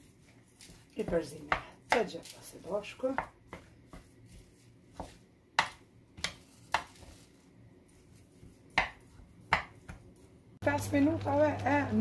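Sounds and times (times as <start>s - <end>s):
hand mixing food in wooden bowl: 0.0s - 12.0s.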